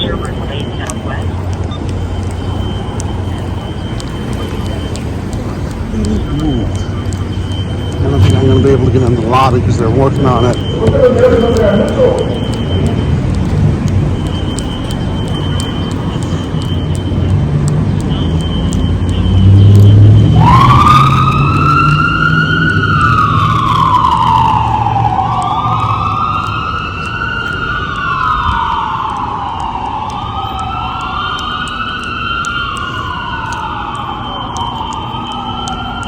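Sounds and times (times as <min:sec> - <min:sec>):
fire engine siren wailing: 0:00.0 - 0:36.0
low engine rumble: 0:00.0 - 0:36.0.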